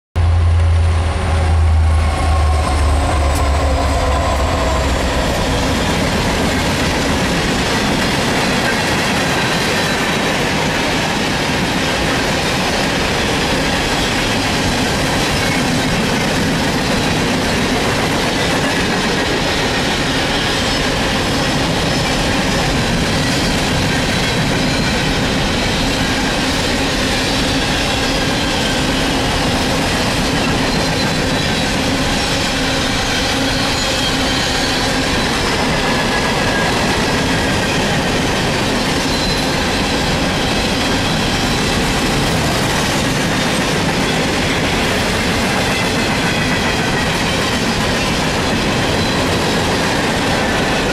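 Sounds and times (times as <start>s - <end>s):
diesel locomotive engine droning: 0.2s - 50.9s
train cars rumbling: 0.2s - 50.9s.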